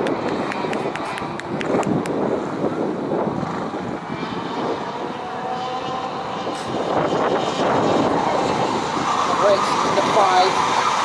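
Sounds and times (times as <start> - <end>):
racing kart engines buzzing: 0.0 - 11.0.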